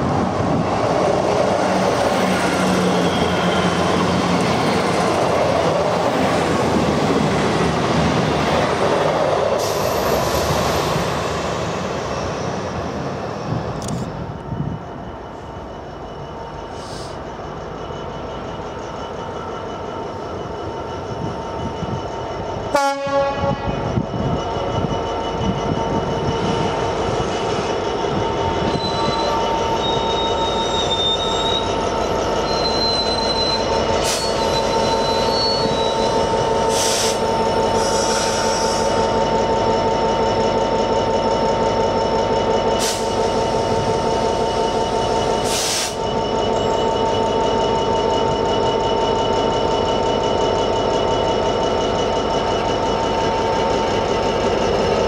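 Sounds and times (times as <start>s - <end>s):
diesel locomotive engine running: 0.0s - 55.0s
train clanks: 0.0s - 55.0s
train wheels squealing on rails: 0.0s - 55.0s.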